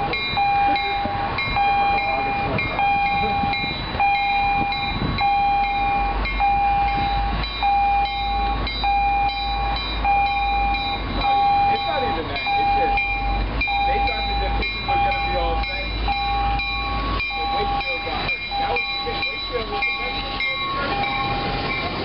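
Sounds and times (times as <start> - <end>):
bell ringing: 0.0 - 22.0
diesel locomotive rumble: 0.0 - 22.0.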